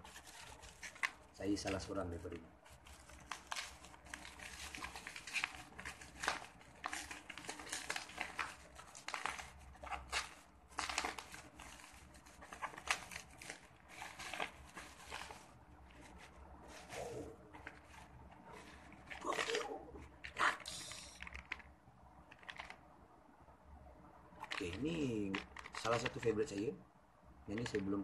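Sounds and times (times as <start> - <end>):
plastic wrap crinkling: 0.0 - 21.7, 22.3 - 22.8, 24.3 - 26.7.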